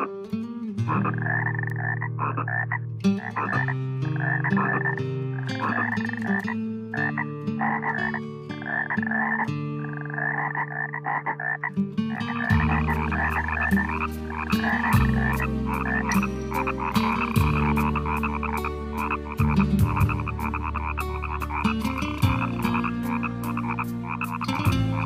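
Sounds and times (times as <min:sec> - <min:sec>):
frogs croaking: 0:00.8 - 0:25.0.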